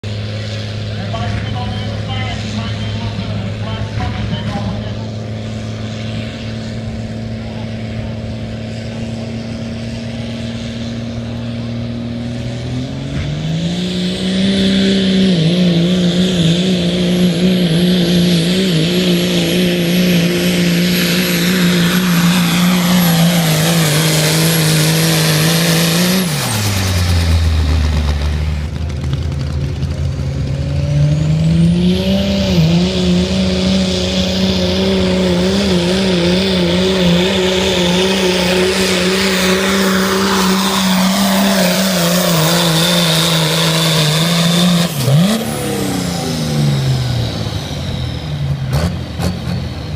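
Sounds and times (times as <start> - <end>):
truck engine revving under load: 0.0 - 49.9.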